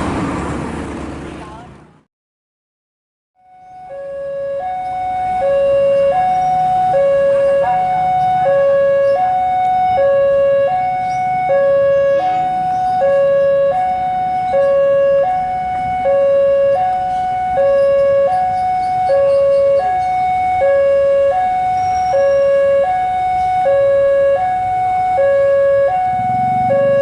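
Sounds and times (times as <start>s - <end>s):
two-tone siren: 3.4s - 27.0s.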